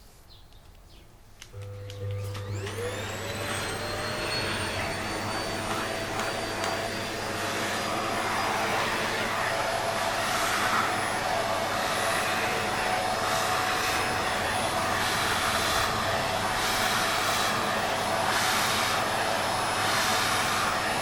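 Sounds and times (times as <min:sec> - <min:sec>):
vacuum cleaner motor whine: 0:01.5 - 0:21.0.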